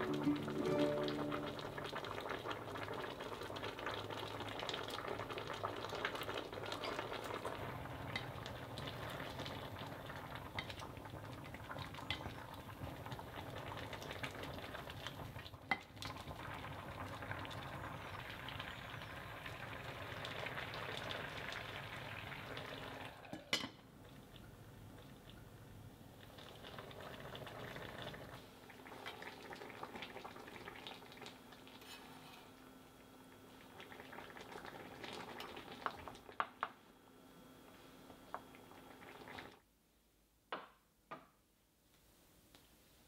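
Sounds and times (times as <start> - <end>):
pots simmering and bubbling: 0.0 - 37.0, 37.6 - 39.7.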